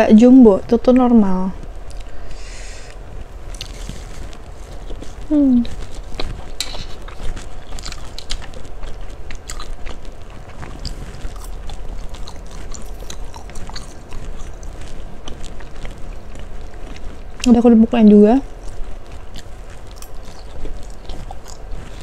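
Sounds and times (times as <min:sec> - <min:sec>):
chewing noodles: 0:01.8 - 0:22.0.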